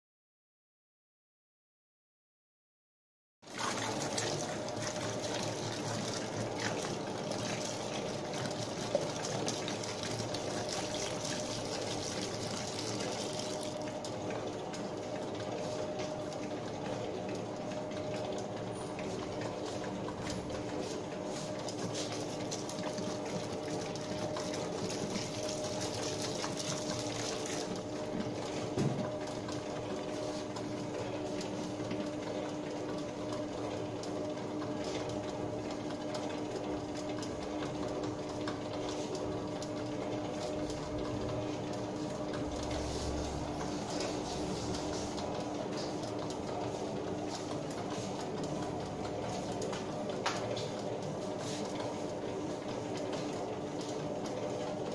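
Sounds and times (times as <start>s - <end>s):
dough mixer humming and whining: 3.4s - 54.9s.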